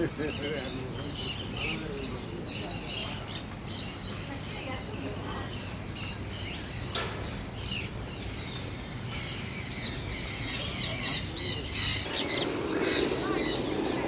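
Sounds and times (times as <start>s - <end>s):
flock of birds squawking and chirping: 0.0s - 14.0s.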